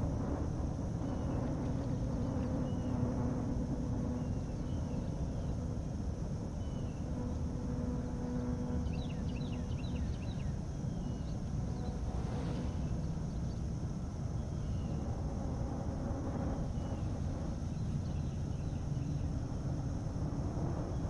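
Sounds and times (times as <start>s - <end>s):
faint held hum: 0.0s - 21.0s
low steady rumble: 0.0s - 21.0s.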